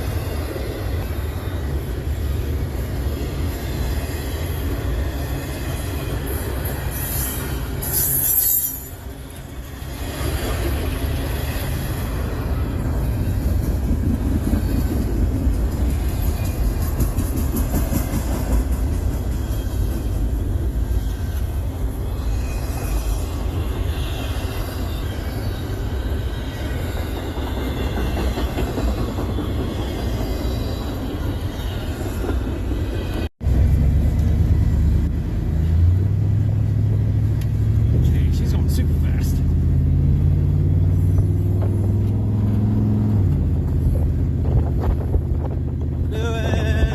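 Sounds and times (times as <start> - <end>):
freight train rumbling on rails: 0.0 - 46.9.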